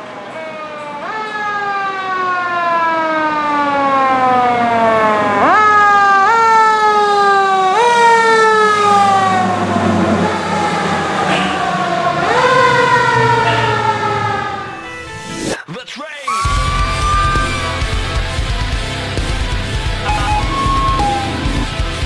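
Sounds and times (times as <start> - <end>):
fire truck siren: 0.0 - 15.5, 16.3 - 22.0.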